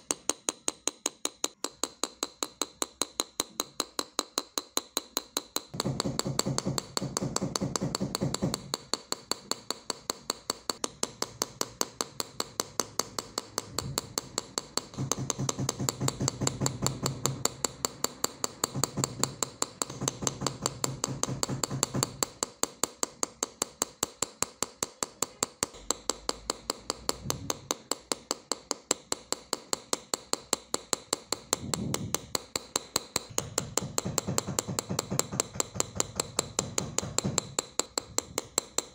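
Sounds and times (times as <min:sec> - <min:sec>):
chisel tapping on metal: 0:00.0 - 0:38.9.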